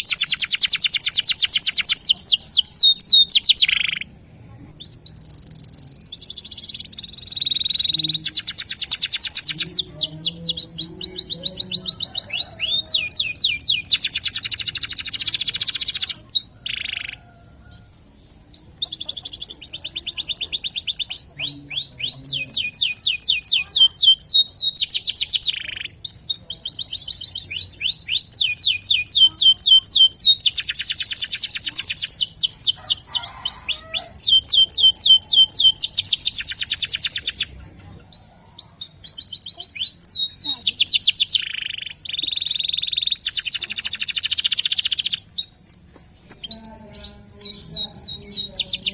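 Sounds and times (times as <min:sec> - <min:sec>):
canary singing trills: 0:00.0 - 0:48.9.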